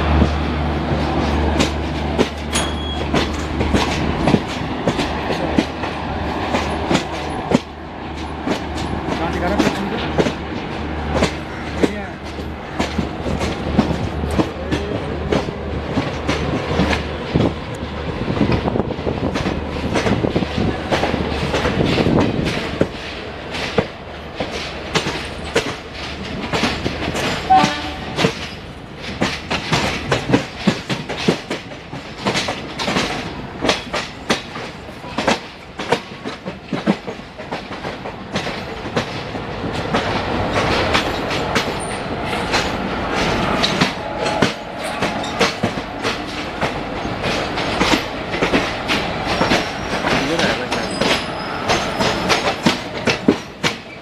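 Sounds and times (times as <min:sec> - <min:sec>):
train low rumble: 0:00.0 - 0:54.0
wheels clacking over rail joints: 0:00.0 - 0:54.0.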